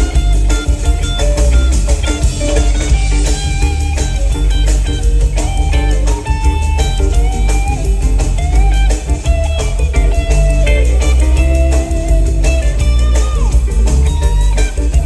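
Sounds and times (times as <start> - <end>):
electric guitar solo: 0.0 - 15.0
live rock band playing: 0.0 - 15.0.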